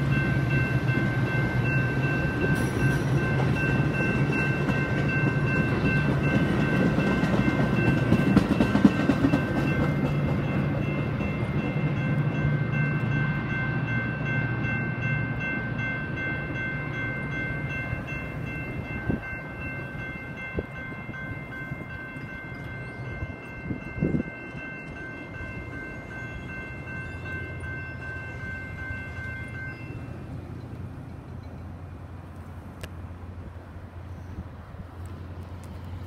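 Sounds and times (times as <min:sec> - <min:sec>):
crossing bell ringing: 0:00.0 - 0:32.4
train rumbling: 0:00.0 - 0:36.0.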